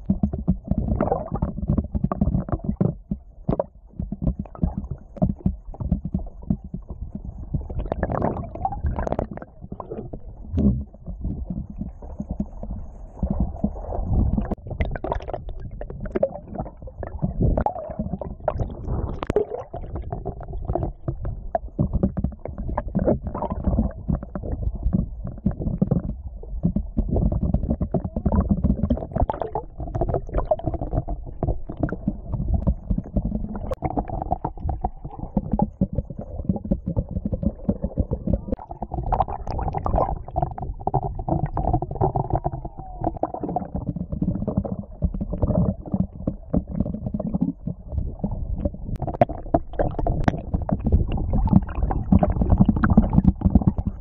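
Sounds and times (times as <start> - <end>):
muffled underwater sloshing: 0.0 - 54.0.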